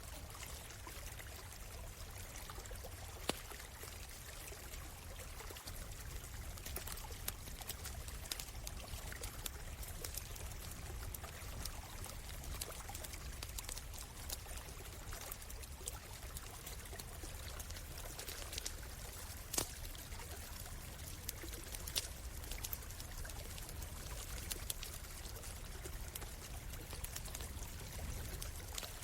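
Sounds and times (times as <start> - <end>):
stream trickling: 0.0 - 29.0
campfire crackling: 2.4 - 29.0.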